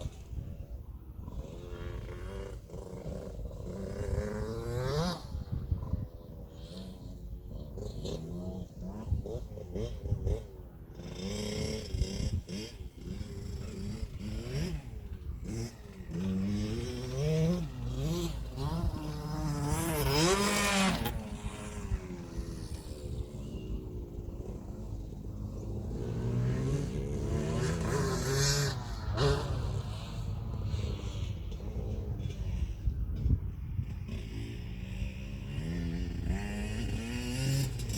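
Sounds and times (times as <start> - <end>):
two-stroke motocross bike revving: 0.0 - 37.9.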